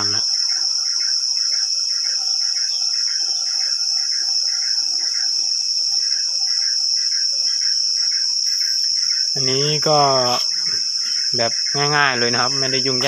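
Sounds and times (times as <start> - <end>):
high-pitched insect chorus: 0.0 - 13.0
pulsing chirping call: 0.0 - 13.0.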